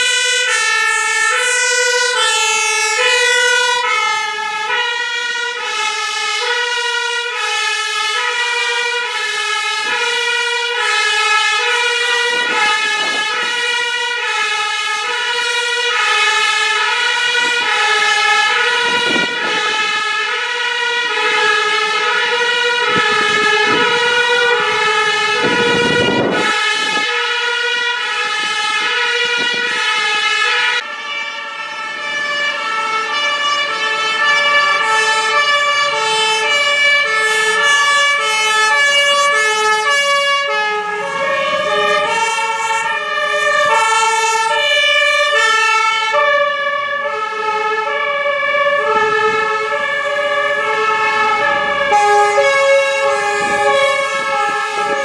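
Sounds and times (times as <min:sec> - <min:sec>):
fire engine two-tone sirens: 0:00.0 - 0:55.0.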